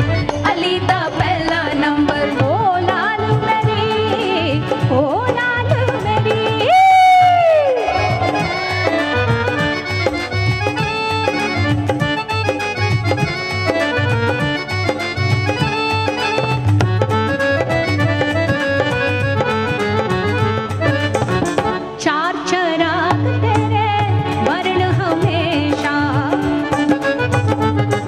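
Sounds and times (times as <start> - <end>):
band playing instrumental: 0.0 - 28.0.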